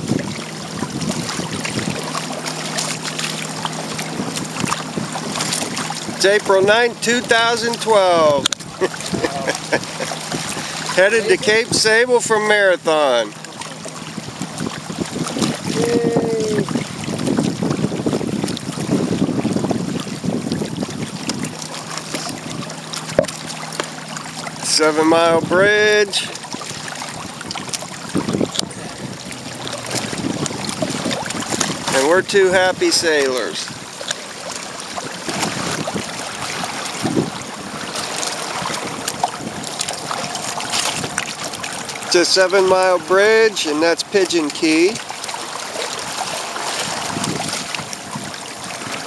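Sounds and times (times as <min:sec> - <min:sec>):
wind buffeting microphone: 0:00.0 - 0:12.2, 0:13.4 - 0:23.3, 0:25.2 - 0:33.0, 0:34.6 - 0:42.2, 0:45.9 - 0:49.0
water splashing against hull: 0:00.0 - 0:49.0.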